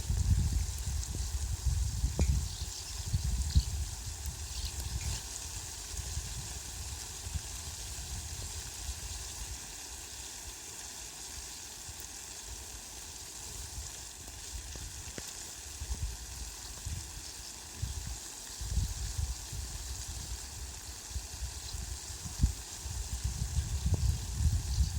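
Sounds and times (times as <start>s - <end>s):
heavy rain on leafy plants: 0.0s - 24.9s.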